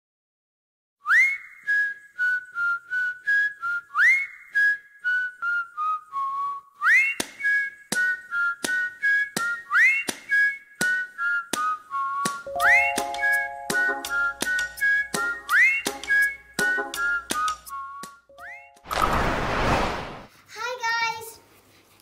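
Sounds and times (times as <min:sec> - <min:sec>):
whistled melody music: 0:01.0 - 0:18.9.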